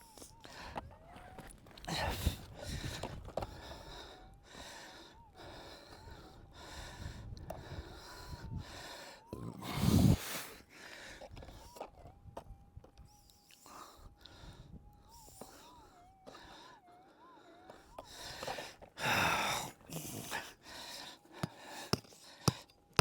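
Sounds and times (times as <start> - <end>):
heavy breathing: 0.0 - 12.2, 13.3 - 23.0.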